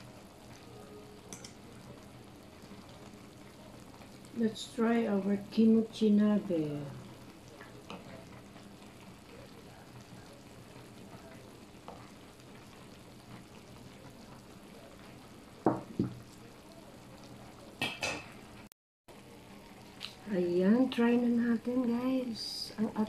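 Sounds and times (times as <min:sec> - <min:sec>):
hotpot simmering with soft bubbling: 0:00.0 - 0:23.0.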